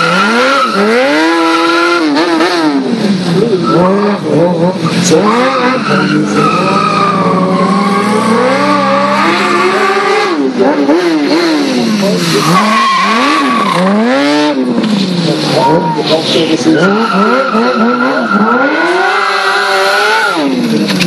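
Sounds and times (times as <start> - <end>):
tyre squeal on asphalt: 0.0 - 2.4, 3.4 - 10.5, 11.2 - 21.0
motorcycle engine revving: 0.0 - 16.0, 16.6 - 21.0.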